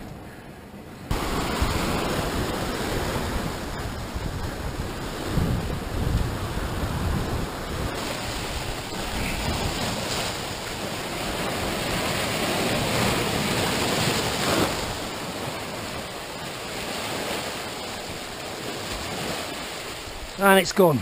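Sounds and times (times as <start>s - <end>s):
surf washing over rocks: 1.1s - 21.0s.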